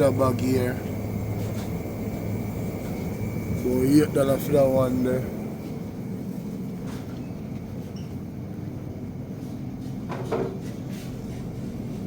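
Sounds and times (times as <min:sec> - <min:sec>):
cooling and air handling hum: 0:00.0 - 0:12.0.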